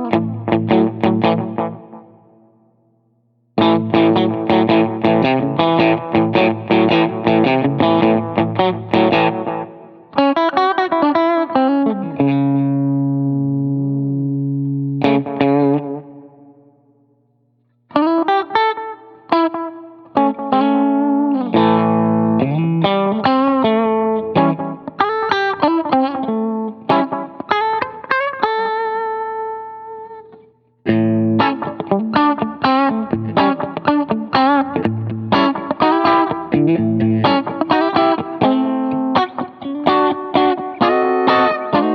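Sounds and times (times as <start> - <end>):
electric guitar melodic phrases: 0.0 - 41.9.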